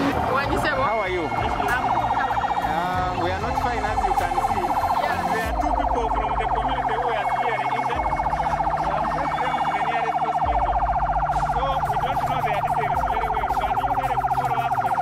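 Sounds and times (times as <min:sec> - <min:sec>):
emergency vehicle siren warbling: 0:00.0 - 0:15.0.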